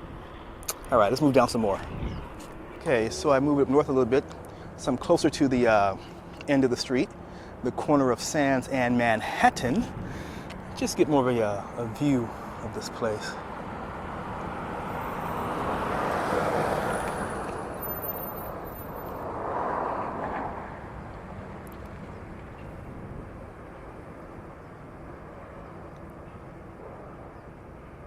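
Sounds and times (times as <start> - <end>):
distant traffic: 0.0 - 28.0
vehicles passing by: 0.0 - 28.0.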